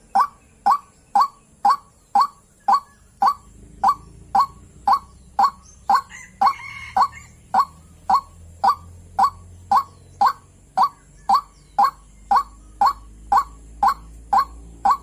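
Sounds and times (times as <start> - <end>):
waterhen call: 0.0 - 15.0.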